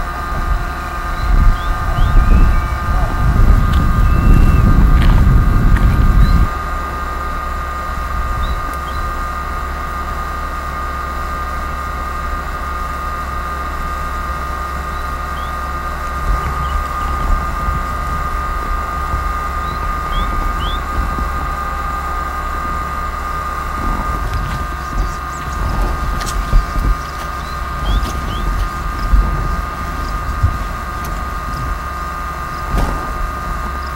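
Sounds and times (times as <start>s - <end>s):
wind buffeting microphone: 0.0s - 9.5s, 14.0s - 33.9s
steady high whine: 0.0s - 33.9s.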